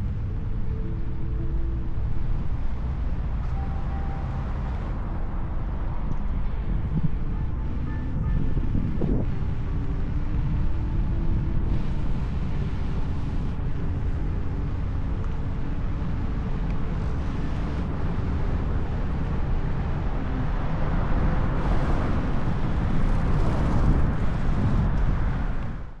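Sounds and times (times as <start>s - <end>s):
road noise: 0.0s - 26.0s
wind buffeting microphone: 4.2s - 26.0s.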